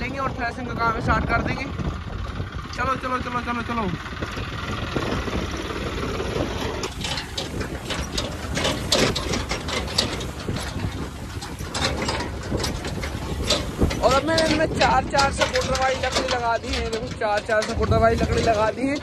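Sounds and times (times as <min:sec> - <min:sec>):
irregular rattling and clatter: 0:00.0 - 0:19.0
tractor diesel engine running: 0:00.0 - 0:19.0.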